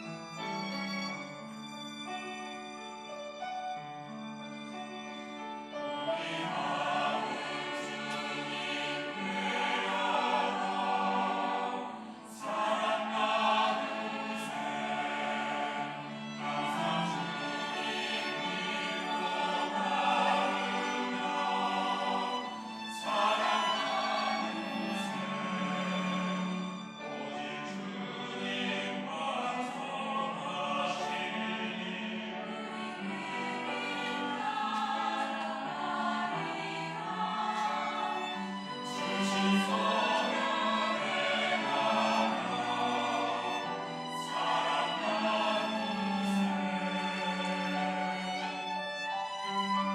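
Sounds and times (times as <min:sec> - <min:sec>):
church choir singing a hymn: 0:00.0 - 0:49.9.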